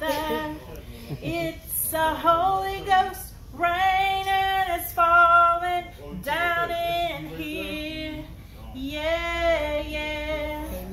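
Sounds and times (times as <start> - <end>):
woman singing unaccompanied: 0.0 - 0.6, 1.2 - 10.9.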